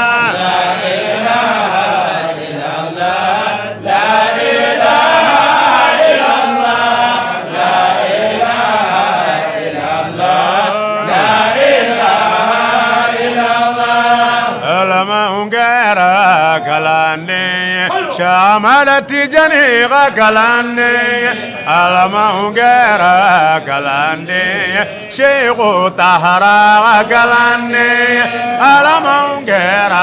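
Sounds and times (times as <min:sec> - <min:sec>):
man singing ornamented solo: 0:00.0 - 0:30.0
men chanting together: 0:00.0 - 0:30.0.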